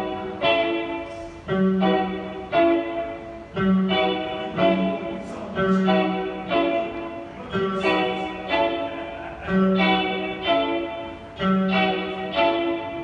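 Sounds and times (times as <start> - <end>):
plucked-string melody: 0.0 - 13.0.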